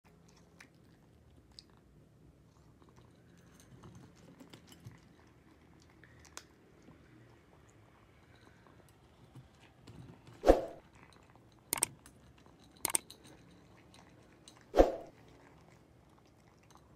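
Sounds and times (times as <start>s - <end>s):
cat eating from a bowl: 0.0s - 16.9s.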